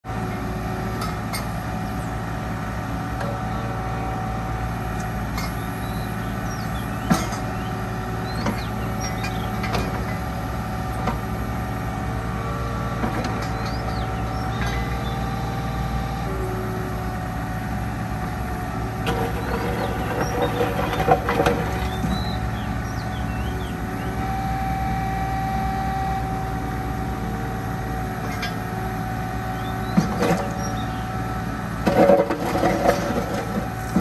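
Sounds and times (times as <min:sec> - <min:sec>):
excavator diesel engine running: 0:00.1 - 0:34.0.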